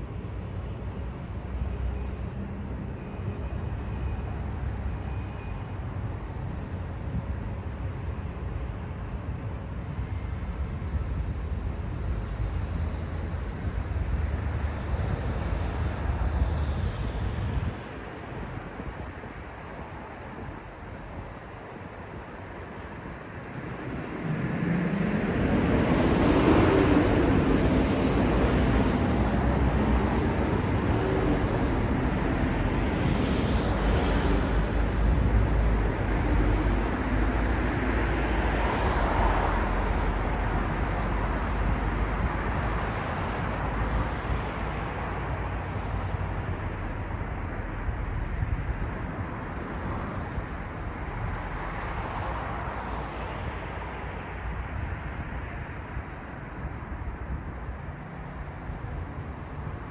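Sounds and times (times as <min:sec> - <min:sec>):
low rumble of traffic: 0:00.0 - 0:59.9.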